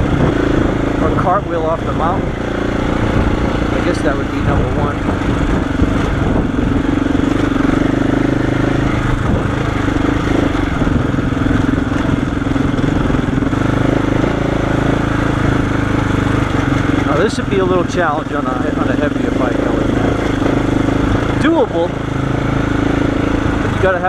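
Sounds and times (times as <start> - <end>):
motorcycle engine at low revs: 0.0 - 24.0.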